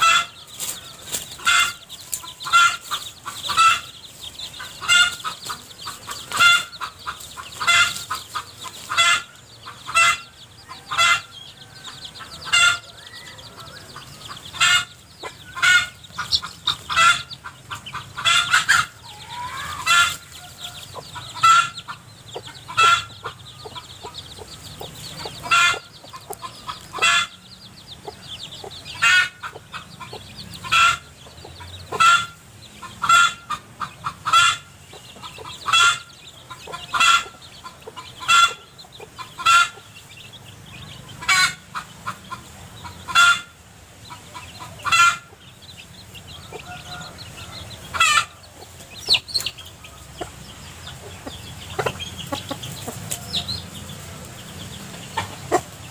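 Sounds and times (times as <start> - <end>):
hen clucking: 0.0 - 55.9.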